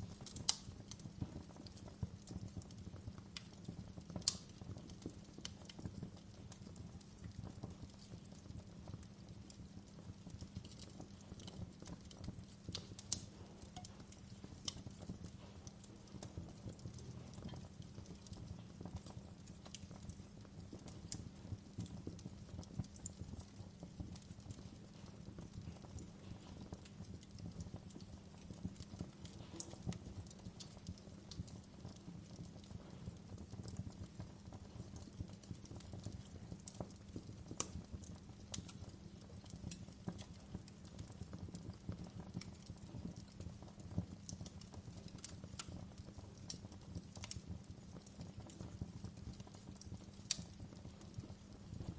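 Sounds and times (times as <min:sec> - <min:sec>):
fireplace crackling: 0:00.0 - 0:51.9.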